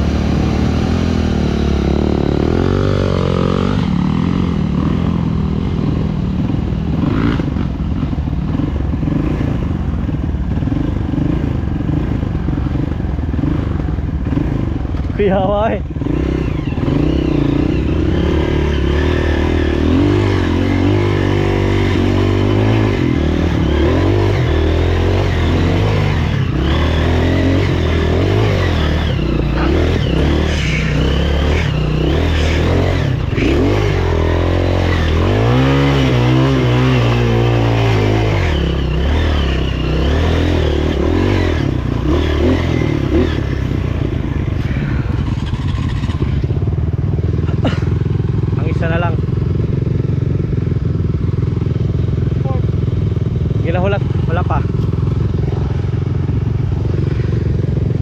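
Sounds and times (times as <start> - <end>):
motorcycle engine revving under load: 0.0 - 58.0.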